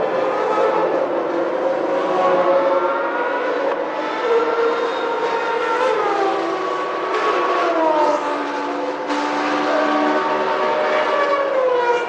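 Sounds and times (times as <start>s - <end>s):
racing car engines at high revs: 0.0s - 12.0s.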